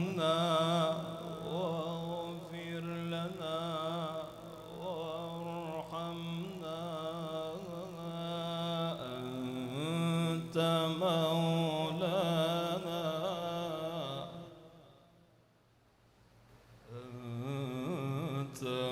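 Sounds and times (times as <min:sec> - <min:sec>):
melodic recitation voice: 0:00.0 - 0:14.6, 0:16.9 - 0:18.9.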